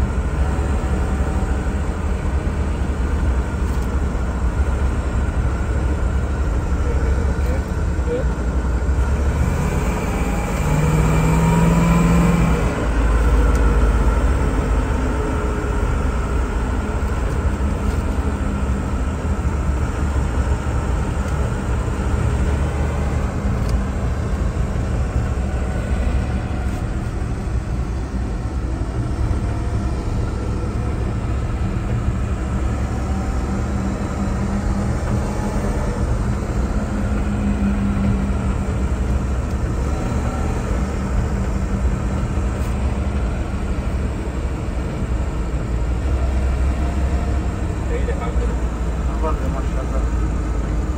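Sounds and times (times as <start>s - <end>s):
car engine running: 0.0s - 50.9s
road noise: 0.0s - 50.9s.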